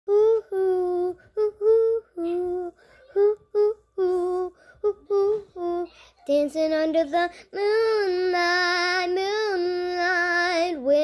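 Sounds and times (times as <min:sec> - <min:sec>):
girl singing unaccompanied: 0:00.1 - 0:11.0.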